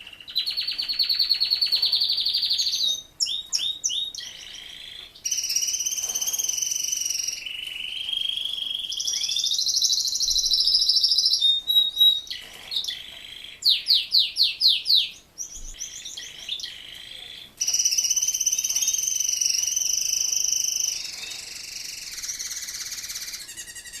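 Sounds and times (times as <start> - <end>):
canary singing trills: 0.0 - 24.0.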